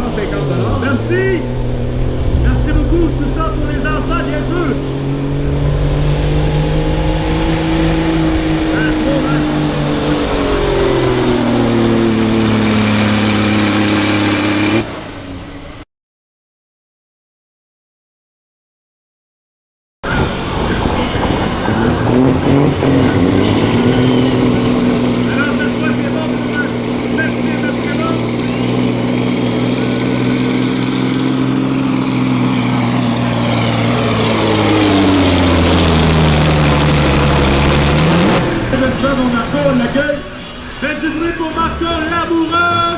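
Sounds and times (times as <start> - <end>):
diesel truck engine under load: 0.0 - 15.8, 20.0 - 40.9.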